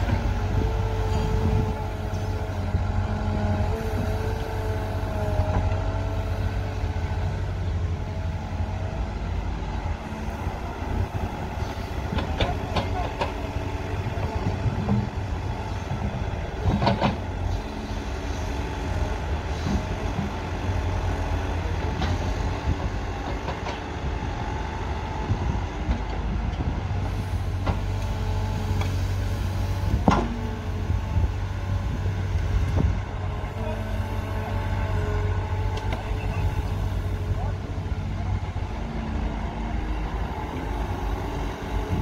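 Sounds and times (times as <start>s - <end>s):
excavator engine and hydraulics droning: 0.0s - 42.0s.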